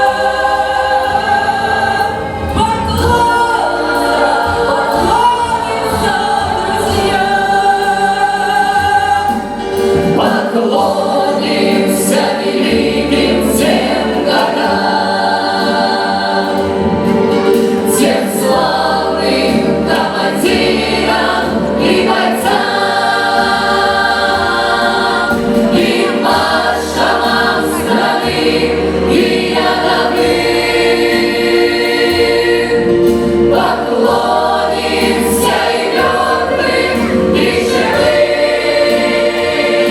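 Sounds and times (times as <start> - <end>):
instrumental accompaniment: 0.0 - 39.9
vocal ensemble singing: 0.0 - 39.9.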